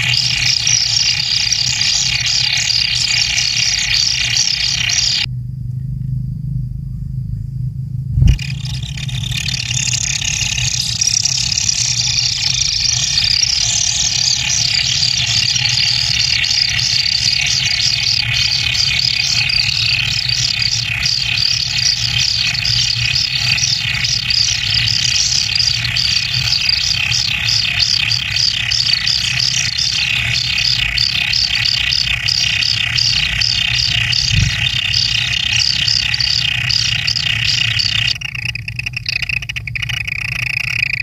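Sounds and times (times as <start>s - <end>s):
nestlings calling: 0.0s - 5.3s, 8.3s - 41.0s.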